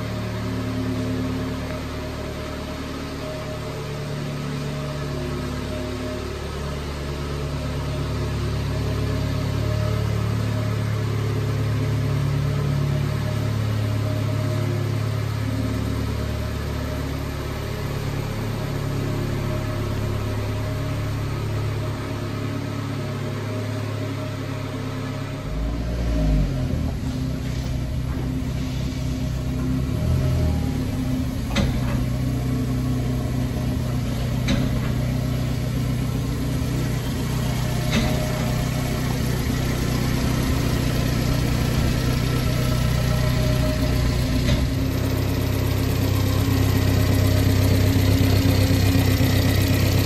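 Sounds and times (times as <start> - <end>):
small truck engine idling: 0.0 - 50.0.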